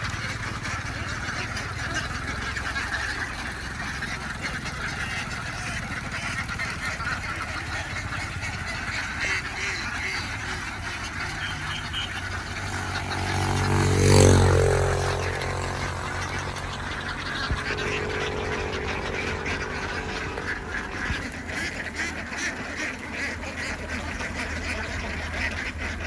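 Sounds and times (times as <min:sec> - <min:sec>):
ducks quacking: 0:00.0 - 0:26.0
motor vehicle passing: 0:00.0 - 0:26.0.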